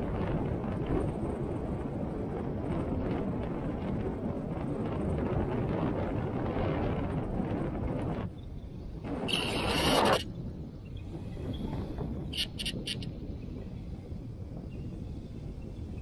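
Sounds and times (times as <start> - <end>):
storm wind rushing: 0.0 - 16.0.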